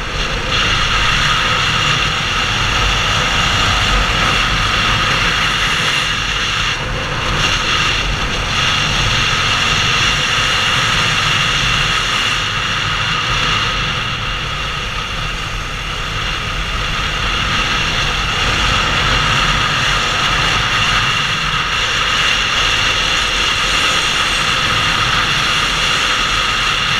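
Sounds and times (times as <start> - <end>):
motorcycle engine running: 0.0 - 26.9
wind on microphone: 0.0 - 26.9.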